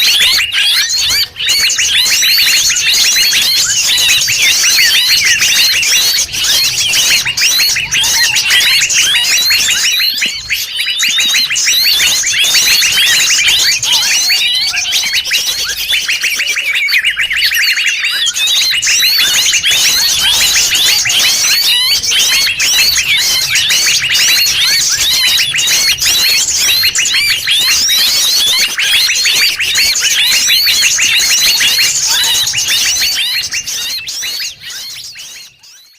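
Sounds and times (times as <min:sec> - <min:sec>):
chorus of small birds chirping: 0:00.0 - 0:35.9.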